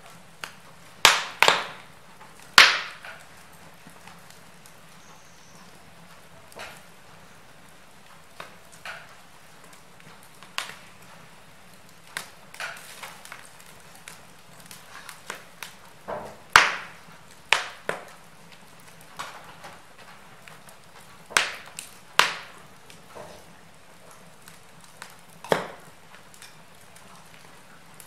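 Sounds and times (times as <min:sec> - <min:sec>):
faint steady hiss: 0:00.0 - 0:28.0
wood fire crackling and popping: 0:00.0 - 0:28.0.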